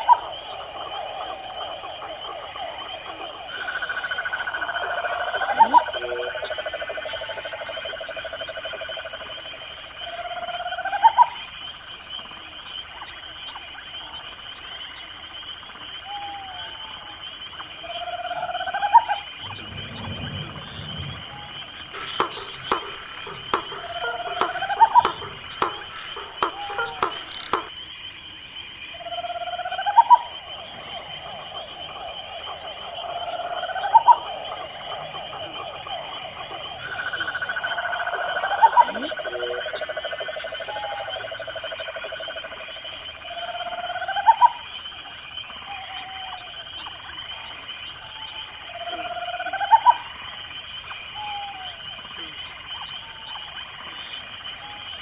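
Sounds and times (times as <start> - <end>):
crickets chirring: 0.0 - 55.0
frogs trilling: 0.0 - 55.0.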